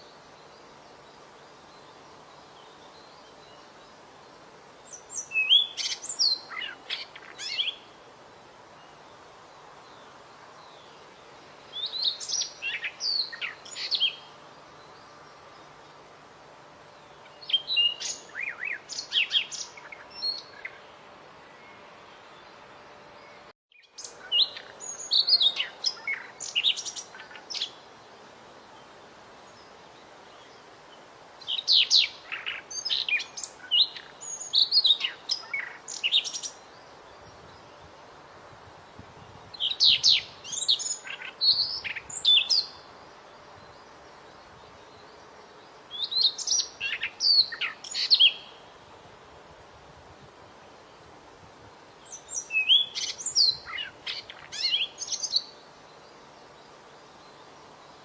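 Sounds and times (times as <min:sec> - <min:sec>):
faint hiss: 0:00.0 - 0:58.0.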